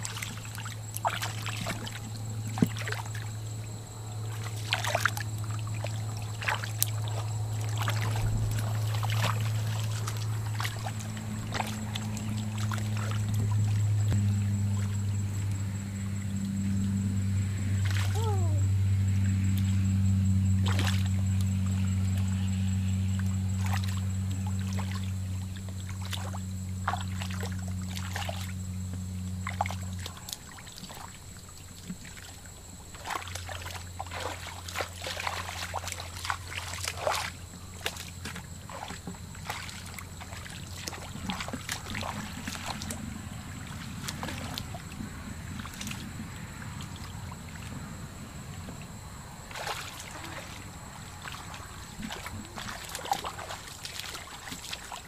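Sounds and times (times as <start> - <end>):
low motor hum: 0.0 - 55.0
splashing in muddy water: 0.0 - 55.0.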